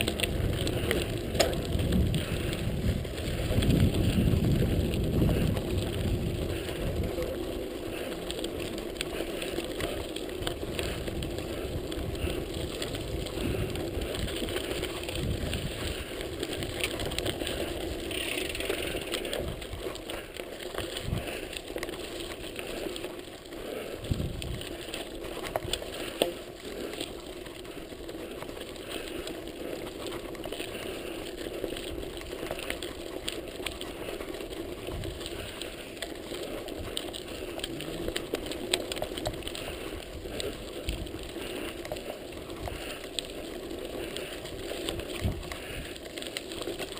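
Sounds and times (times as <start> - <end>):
bike rattling and clicking: 0.0 - 46.9
bike tyres crunching on gravel: 0.0 - 46.9
wind rumbling on microphone: 0.0 - 46.9.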